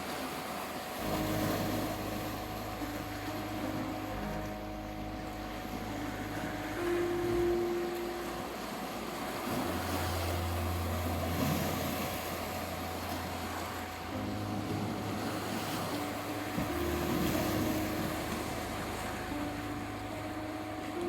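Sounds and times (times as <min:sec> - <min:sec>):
sea waves washing on beach: 0:00.0 - 0:21.0
soft ambient music: 0:00.0 - 0:21.0
low held notes: 0:01.0 - 0:21.0
steady tone: 0:01.0 - 0:21.0.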